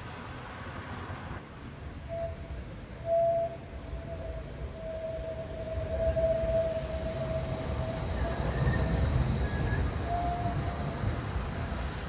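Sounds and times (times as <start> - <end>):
model tram rumbling: 0.0 - 12.0.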